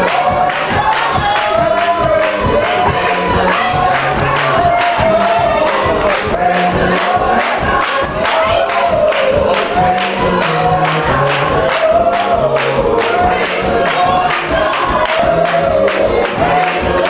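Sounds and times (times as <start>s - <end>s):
bass line and steady beat: 0.0s - 17.0s
choir singing gospel song: 0.0s - 17.0s.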